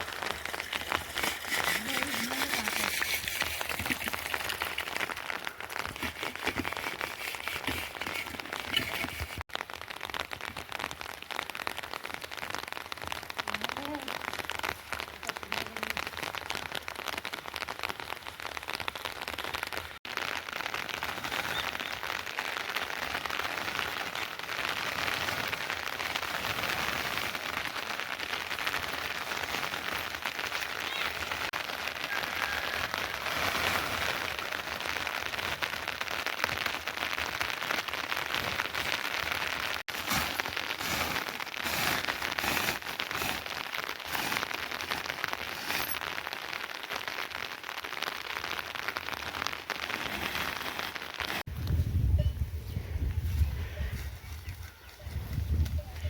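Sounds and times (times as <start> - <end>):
steady rain: 0.0 - 51.7.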